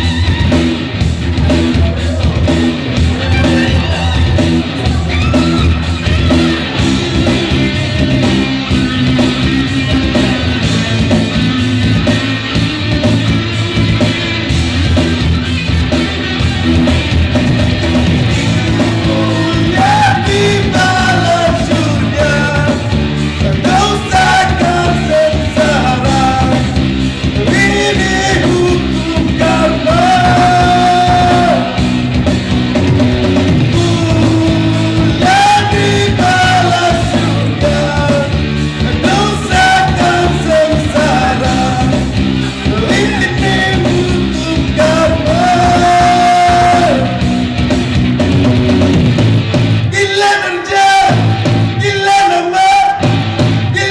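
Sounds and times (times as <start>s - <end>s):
person singing rock song: 0.0s - 53.9s
rock band playing: 0.0s - 53.9s.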